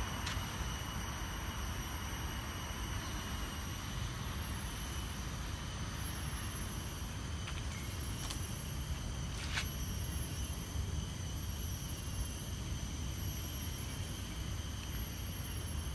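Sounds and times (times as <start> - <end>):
faint high-pitched whine: 0.0 - 15.9.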